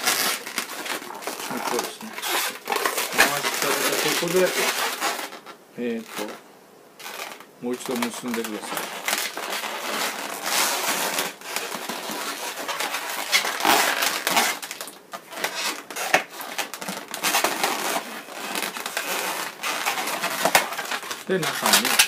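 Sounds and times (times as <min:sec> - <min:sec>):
balloons rubbing and crackling: 0:00.0 - 0:22.0.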